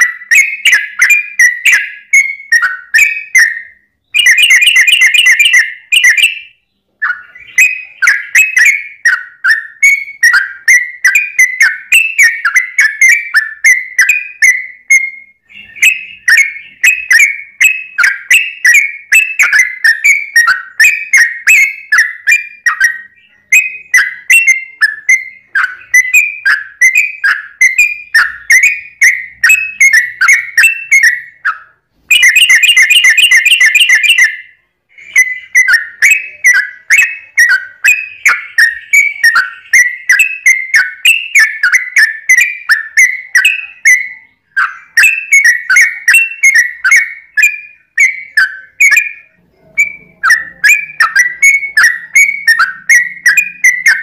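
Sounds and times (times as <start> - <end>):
bird singing chattering whistles: 0.0 - 54.0.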